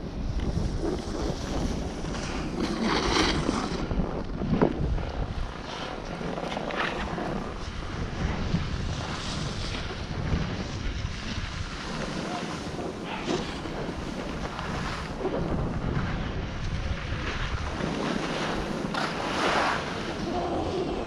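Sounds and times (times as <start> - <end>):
skis scraping on snow: 0.0 - 21.0
wind buffeting microphone: 0.0 - 21.0.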